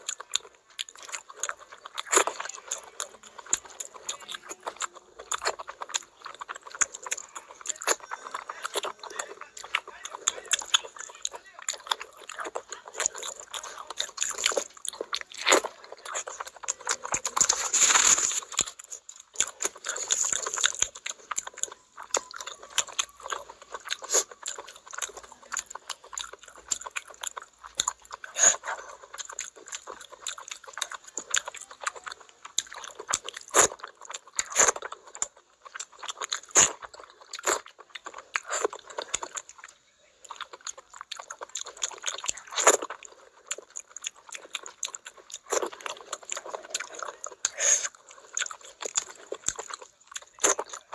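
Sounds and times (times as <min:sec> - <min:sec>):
chewing with wet crackles: 0:00.0 - 0:50.9.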